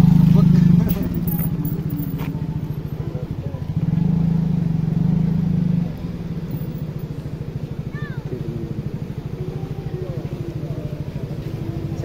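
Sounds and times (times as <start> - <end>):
motor engine puttering: 0.0 - 12.0.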